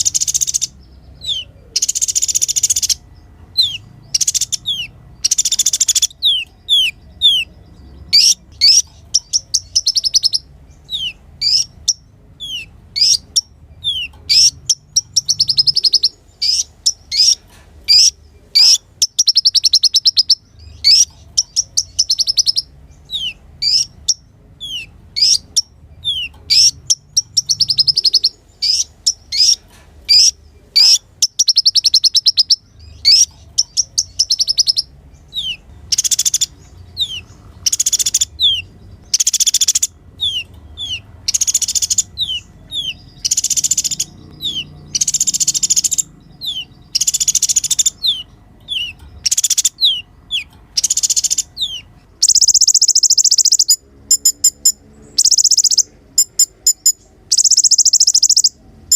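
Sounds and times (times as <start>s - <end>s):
bird buzzy trill: 0.0s - 58.9s.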